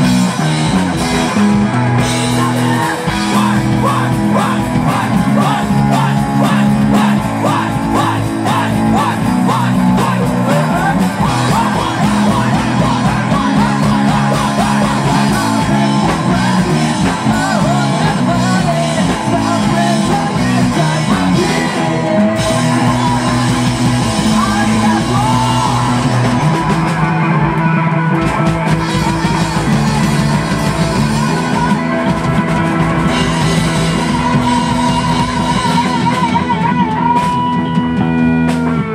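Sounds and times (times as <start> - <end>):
drums: 0.0 - 38.9
electric bass: 0.0 - 38.9
electric guitar: 0.0 - 38.9
person singing: 2.0 - 37.8.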